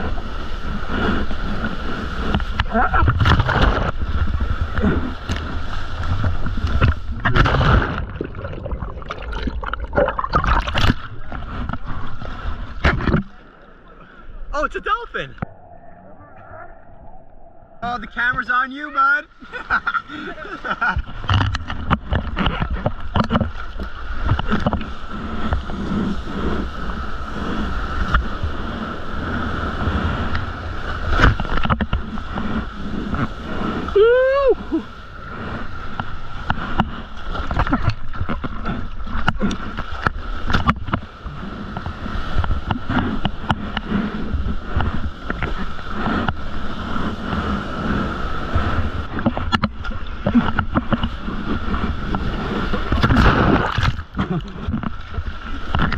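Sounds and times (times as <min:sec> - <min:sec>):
water splashing: 0:00.0 - 0:55.9.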